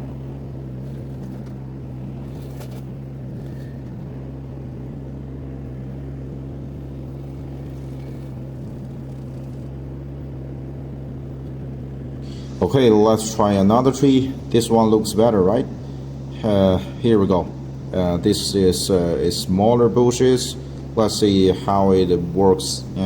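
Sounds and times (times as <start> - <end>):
loader engine and hydraulics: 0.0 - 23.0.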